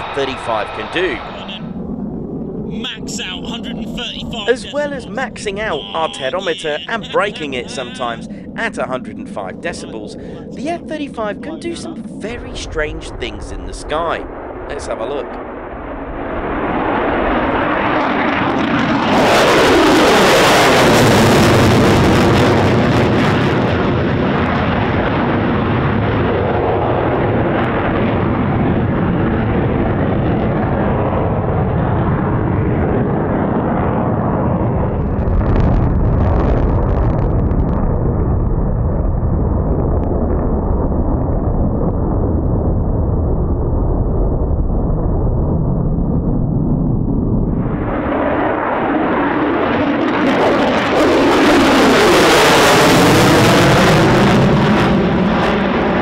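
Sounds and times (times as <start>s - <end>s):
deep jet rumble: 0.0s - 56.0s
jet roar with falling whine: 0.0s - 56.0s.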